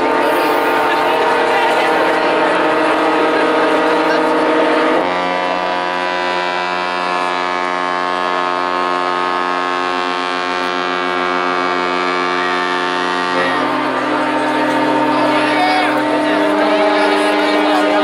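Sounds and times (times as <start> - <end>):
ship's horn blast: 0.0 - 18.0.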